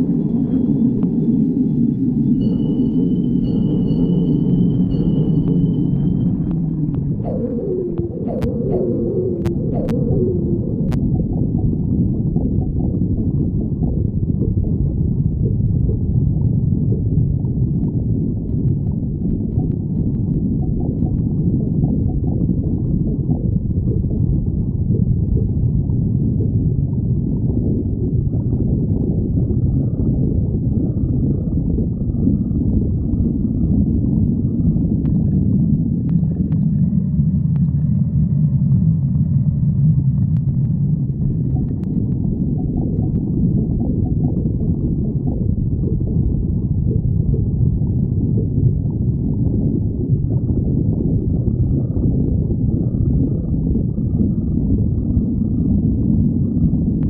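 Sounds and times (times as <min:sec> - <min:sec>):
stomach growling and gurgling: 0:00.0 - 0:57.0.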